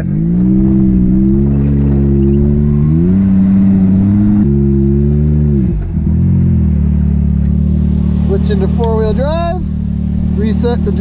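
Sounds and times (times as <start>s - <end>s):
engine running at high revs: 0.0s - 11.0s.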